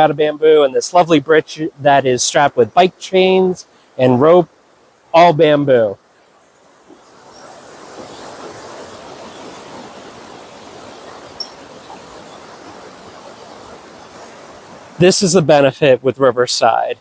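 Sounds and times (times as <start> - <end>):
river water rushing: 0.6 - 15.7.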